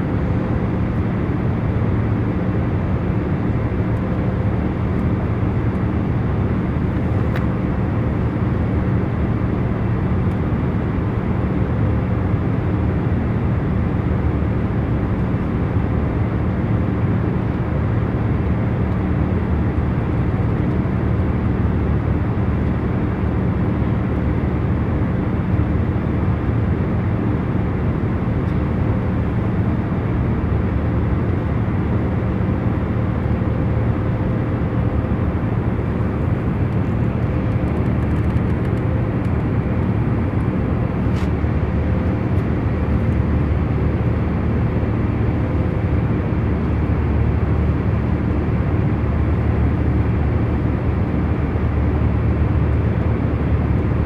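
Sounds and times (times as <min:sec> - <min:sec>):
airliner cabin engine rumble: 0:00.0 - 0:54.0
faint constant hum: 0:00.0 - 0:54.0.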